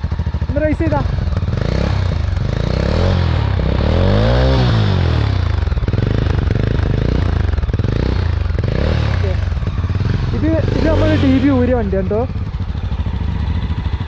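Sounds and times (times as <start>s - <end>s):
engine revving: 0.0s - 14.0s
motorcycle engine idling: 0.0s - 14.0s.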